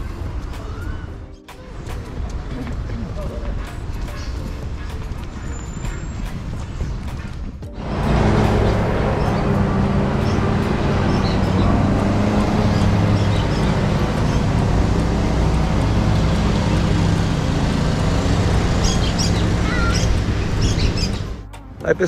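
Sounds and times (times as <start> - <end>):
birds chirping: 0.0 - 22.0
road traffic rumble: 0.0 - 22.0.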